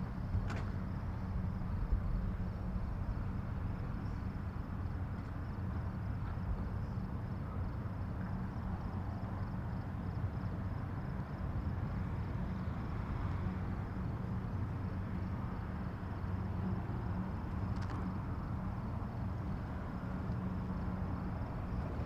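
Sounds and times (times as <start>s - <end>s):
low rumble with faint hum: 0.0s - 22.0s.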